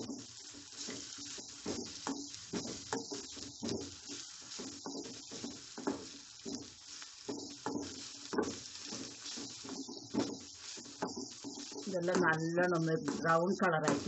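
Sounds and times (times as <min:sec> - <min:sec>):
onions sizzling in hot oil: 0:00.0 - 0:14.0
metal spatula scraping pan: 0:00.1 - 0:12.3.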